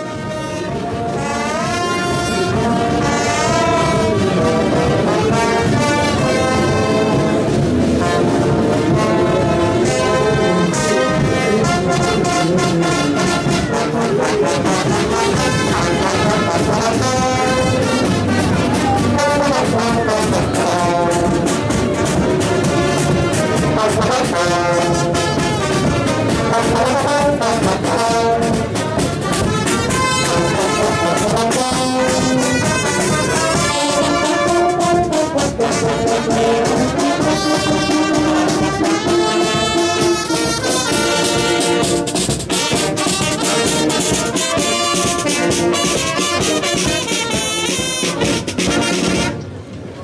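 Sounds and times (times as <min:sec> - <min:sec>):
marching brass band playing: 0:00.0 - 0:50.0.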